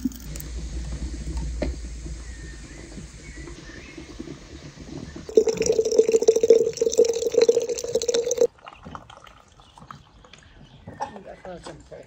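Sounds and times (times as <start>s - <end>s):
liquid pouring: 0.0s - 10.0s.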